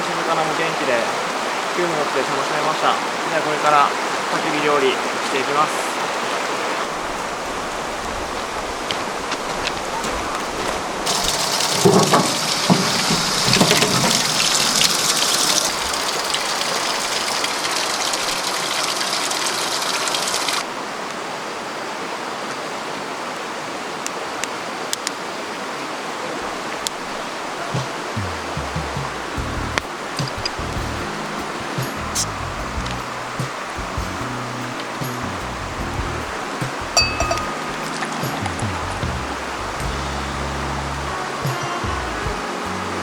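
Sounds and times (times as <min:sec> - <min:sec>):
stream rushing: 0:00.0 - 0:43.0.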